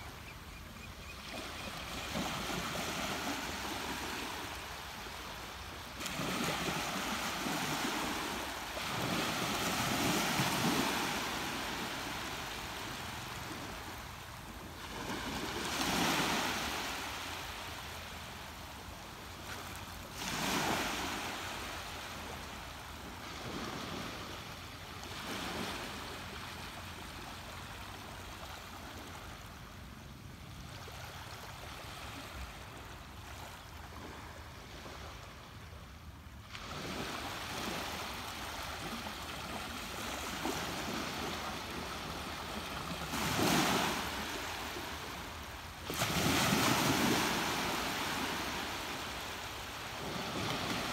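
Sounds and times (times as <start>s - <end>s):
ocean waves breaking: 1.2s - 18.4s, 19.4s - 29.4s, 36.4s - 50.9s.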